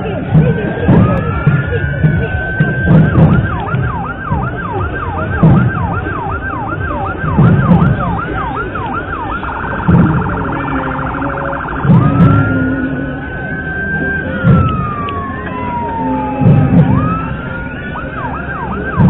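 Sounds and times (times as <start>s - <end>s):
emergency vehicle siren: 0.0s - 19.0s.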